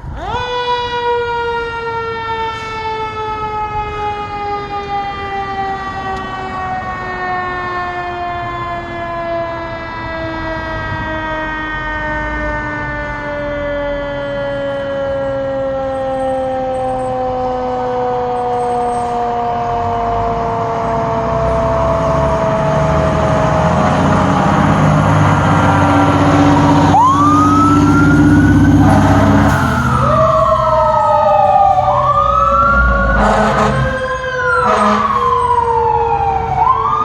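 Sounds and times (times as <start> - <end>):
fire truck siren winding down: 0.0 - 37.0
siren wail: 0.0 - 37.0
diesel engine: 2.5 - 37.0.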